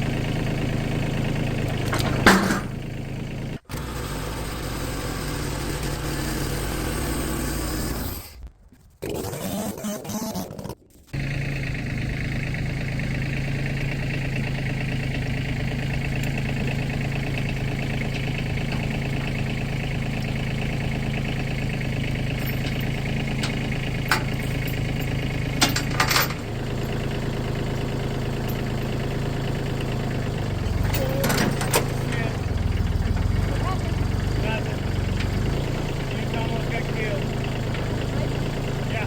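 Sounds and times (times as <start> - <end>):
engine running steadily: 0.0 - 8.8, 9.4 - 39.0.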